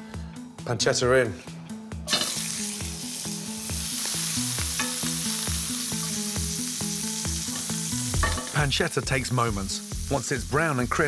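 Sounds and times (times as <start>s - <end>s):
background music: 0.0s - 11.0s
pancetta sizzling in oil: 2.1s - 11.0s.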